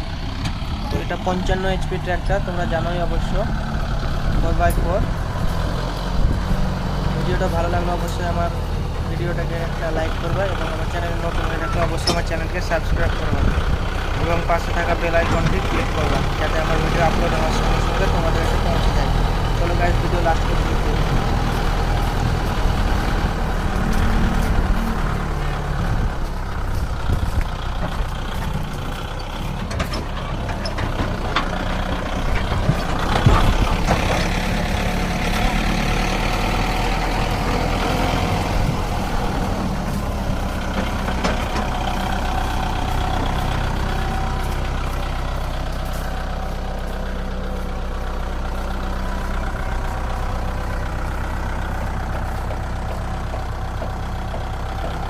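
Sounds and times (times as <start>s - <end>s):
tractor diesel engine running: 0.0s - 55.0s
trolley rattling: 0.0s - 55.0s.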